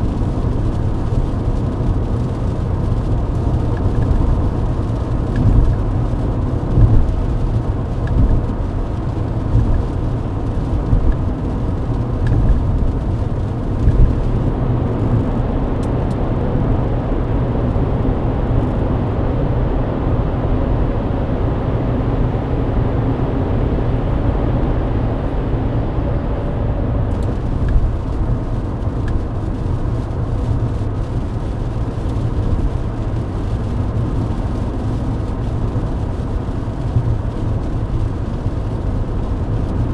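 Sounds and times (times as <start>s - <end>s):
car cabin road rumble: 0.0s - 39.9s.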